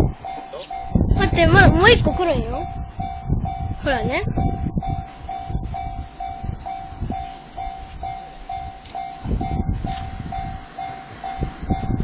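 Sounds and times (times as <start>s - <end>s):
train rumbling past: 0.0s - 12.0s
wheels clacking on rails: 0.0s - 12.0s.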